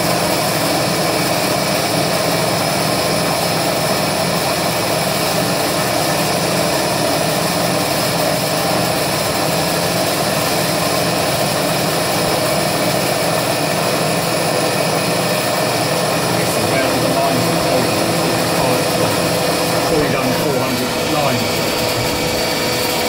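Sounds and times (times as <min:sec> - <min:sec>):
milling machine cutting metal: 0:00.3 - 0:23.0.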